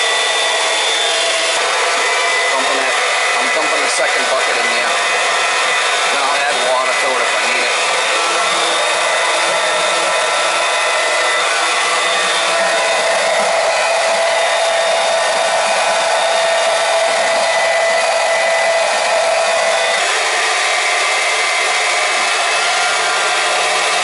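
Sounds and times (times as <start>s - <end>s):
electric pump running: 0.0s - 24.0s.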